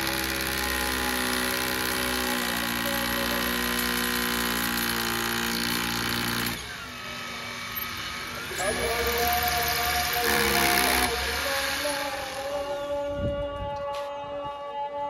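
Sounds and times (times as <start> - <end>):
electric drill running: 0.0 - 12.8.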